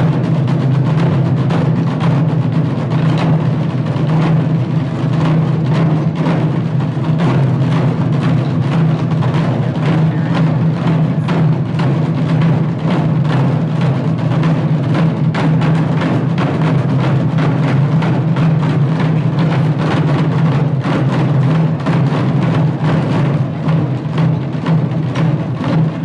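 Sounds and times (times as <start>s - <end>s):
barrel drums drumming: 0.0s - 26.0s.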